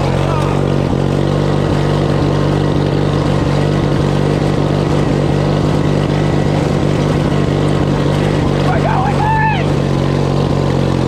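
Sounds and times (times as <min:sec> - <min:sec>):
riding lawn mower engine running: 0:00.0 - 0:11.0.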